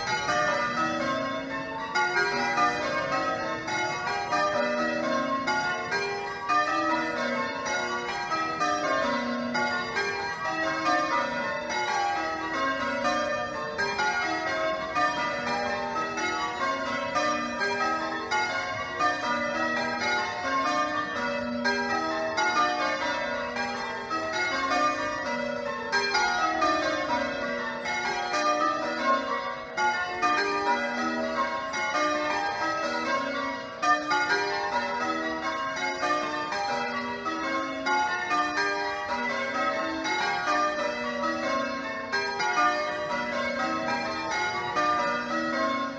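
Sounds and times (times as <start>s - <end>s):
church bells change-ringing: 0.0s - 45.9s.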